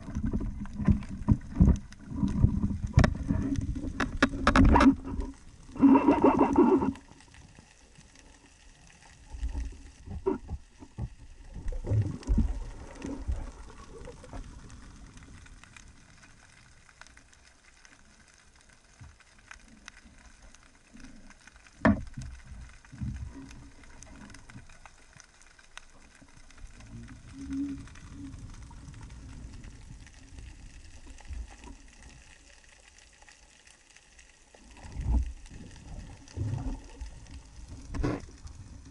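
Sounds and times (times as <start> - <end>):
underwater air bubbles gurgling: 0.0 - 38.9.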